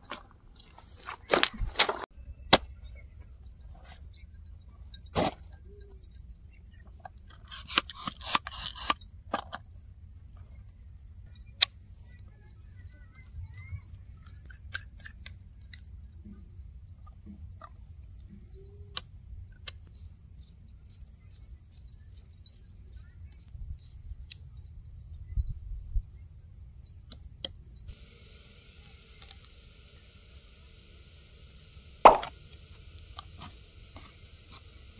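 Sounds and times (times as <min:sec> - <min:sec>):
steady high hum: 0:00.0 - 0:34.9.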